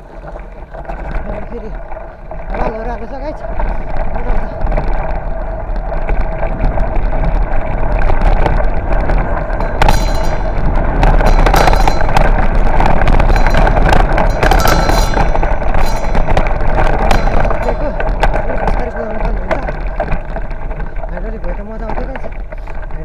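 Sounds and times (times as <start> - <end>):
bike rattling over bumps: 0.0 - 23.0
wind rumbling on microphone: 0.0 - 23.0.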